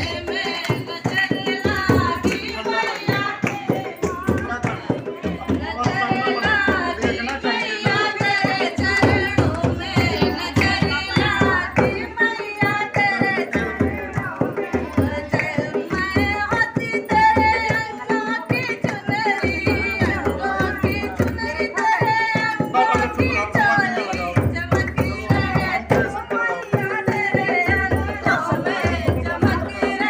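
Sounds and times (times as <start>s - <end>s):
rhythmic hand percussion: 0.0s - 30.0s
woman singing devotional song: 0.0s - 30.0s.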